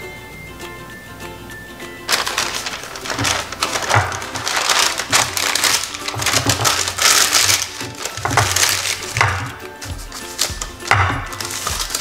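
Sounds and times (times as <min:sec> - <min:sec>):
upbeat background music: 0:00.0 - 0:12.0
parchment paper crinkling: 0:02.1 - 0:12.0.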